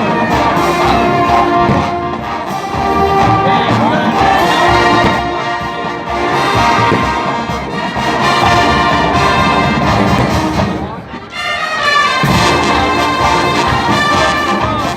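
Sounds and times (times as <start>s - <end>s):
marching band playing: 0.0s - 14.9s
trumpets and trombones: 0.0s - 14.9s
steady drum pulse: 0.3s - 10.9s, 12.2s - 14.9s.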